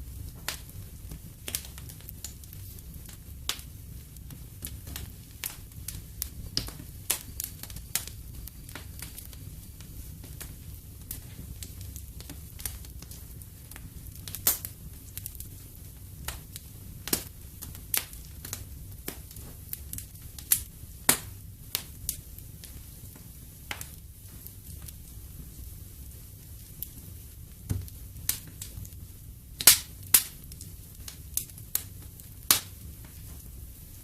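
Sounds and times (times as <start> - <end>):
low rumble of flames: 0.0 - 34.0
wood fire crackling and popping: 0.0 - 34.0.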